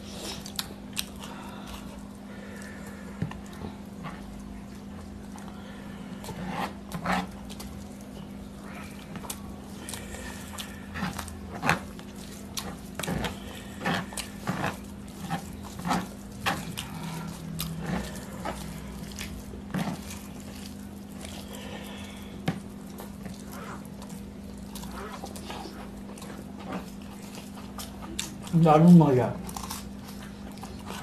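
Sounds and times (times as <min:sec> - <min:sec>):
chewing and lip-smacking: 0:00.0 - 0:31.0
steady low hum: 0:00.0 - 0:31.0.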